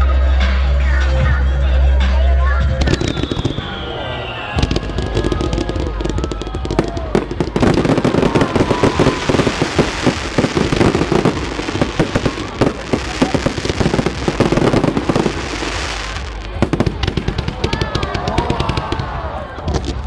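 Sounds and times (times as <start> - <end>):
fireworks bangs and crackles: 2.8 - 20.0.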